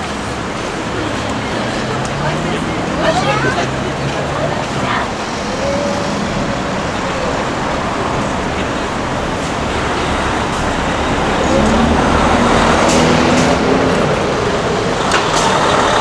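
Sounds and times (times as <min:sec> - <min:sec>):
passing traffic road noise: 0:00.0 - 0:16.0
vehicle engine approaching: 0:00.0 - 0:16.0.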